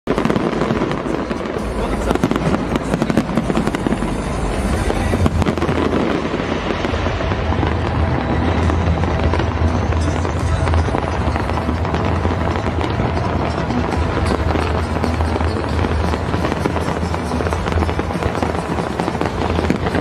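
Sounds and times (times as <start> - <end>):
fireworks bursting and crackling: 0.1 - 20.0.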